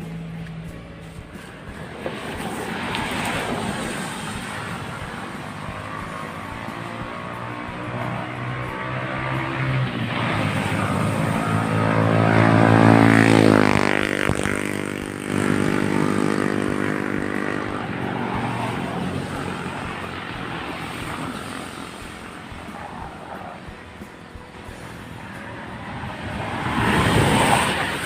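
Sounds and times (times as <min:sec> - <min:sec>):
small engine passing by: 0:00.0 - 0:28.0.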